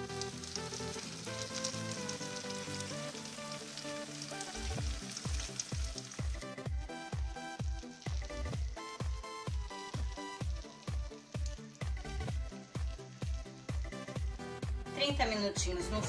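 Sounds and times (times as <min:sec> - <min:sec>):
fish sizzling and crackling: 0:00.0 - 0:15.0
background music: 0:00.0 - 0:16.0.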